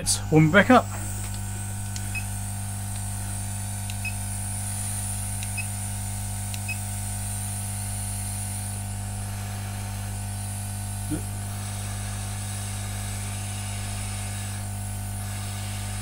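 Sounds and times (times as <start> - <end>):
hot air gun hissing: 0.3 - 16.0.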